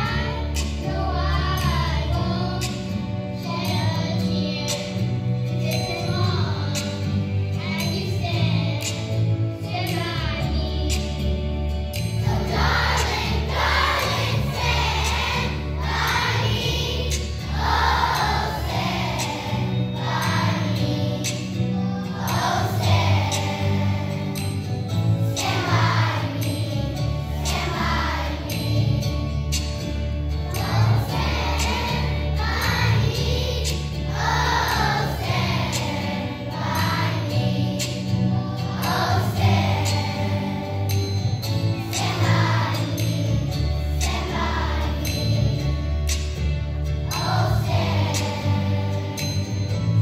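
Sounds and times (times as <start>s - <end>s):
children's choir singing: 0.0s - 50.0s
instrumental accompaniment with bass: 0.0s - 50.0s.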